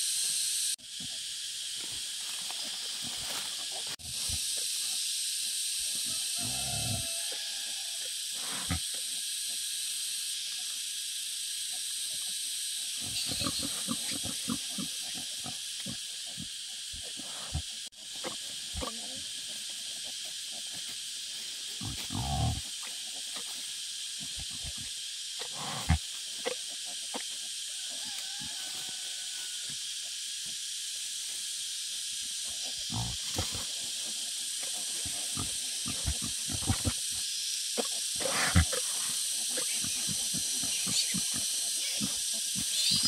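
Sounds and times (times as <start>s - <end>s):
steady high hiss: 0.0s - 43.0s
wild boar grunting and snuffling: 1.8s - 5.0s, 5.8s - 9.6s, 11.7s - 29.0s, 32.2s - 43.0s.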